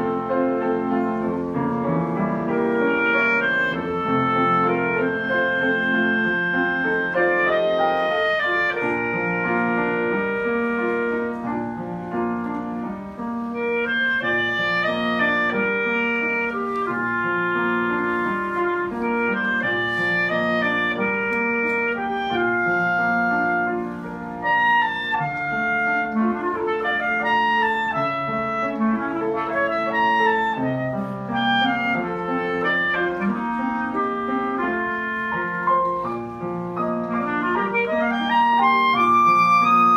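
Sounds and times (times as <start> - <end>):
clarinet melody: 0.0 - 39.9
piano chords: 0.0 - 39.9.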